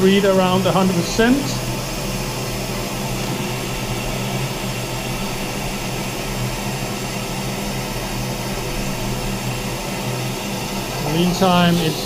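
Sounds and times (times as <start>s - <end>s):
dicing saw spindle hiss and hum: 0.0s - 12.0s.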